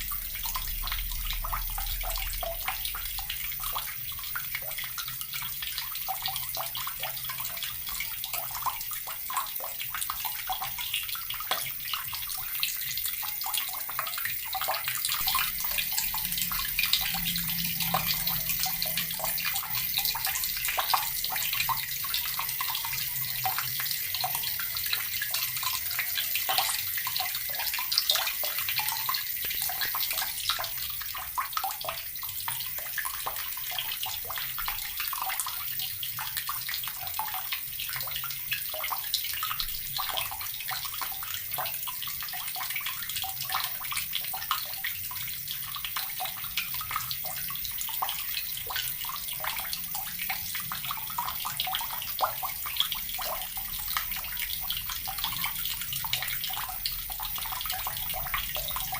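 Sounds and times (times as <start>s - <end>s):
water running from a tap: 0.0s - 58.9s.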